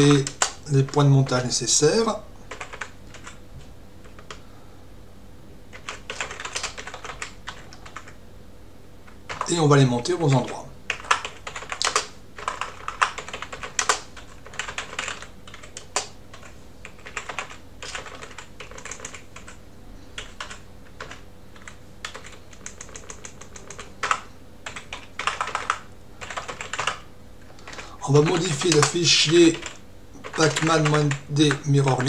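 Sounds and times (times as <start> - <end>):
typing on computer keyboard: 0.0 - 1.0, 2.5 - 3.4, 4.0 - 4.4, 5.7 - 8.2, 9.3 - 9.5, 10.4 - 19.6, 20.2 - 32.0.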